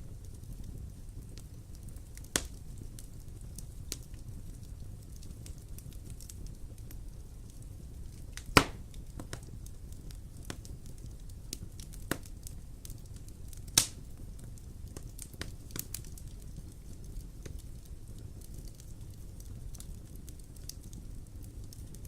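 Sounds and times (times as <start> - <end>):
fire rumbling and crackling: 0.0 - 22.0
loud fire pops: 0.1 - 22.0.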